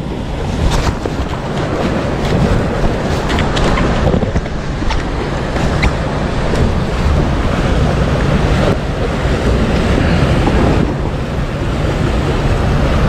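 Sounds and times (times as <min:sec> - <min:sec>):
sea waves: 0:00.0 - 0:13.0
wind buffeting microphone: 0:00.0 - 0:13.0.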